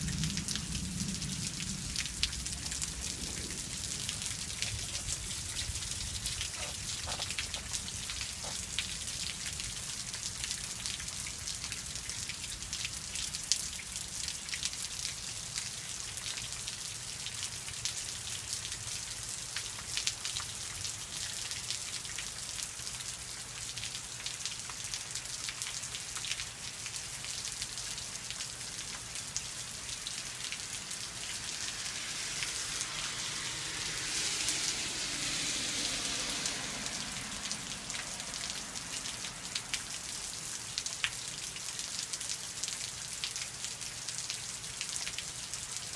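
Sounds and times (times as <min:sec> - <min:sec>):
raindrops striking close by: 0:00.0 - 0:45.9
steady rain: 0:00.0 - 0:45.9.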